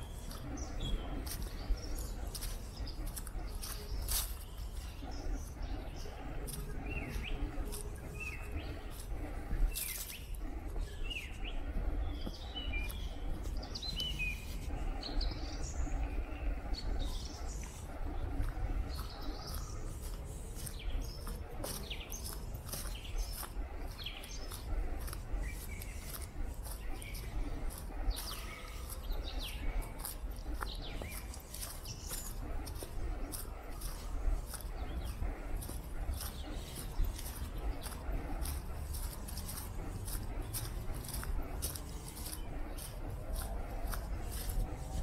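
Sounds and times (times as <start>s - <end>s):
footsteps on dry leaves: 0.0s - 45.0s
songbirds chirping: 0.0s - 45.0s
steady low rumble: 0.0s - 45.0s.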